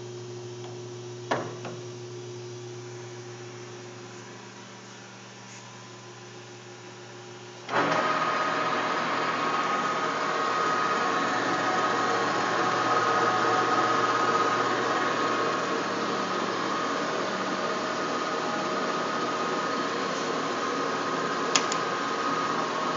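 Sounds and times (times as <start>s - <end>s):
lathe running with whine: 0.0s - 22.9s.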